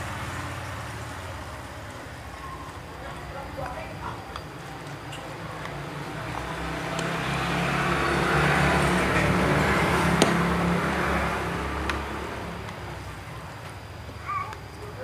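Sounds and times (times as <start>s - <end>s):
vehicle passing by: 0.0s - 3.3s, 3.9s - 13.3s.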